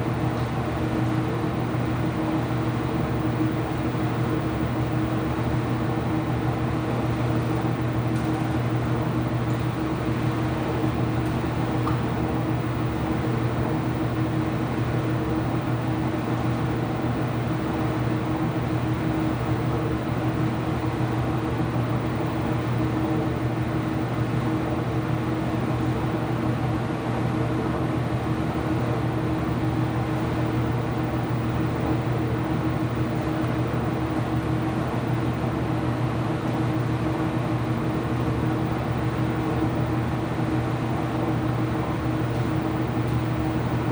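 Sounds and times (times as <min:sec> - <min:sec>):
washing machine humming: 0:00.0 - 0:43.9.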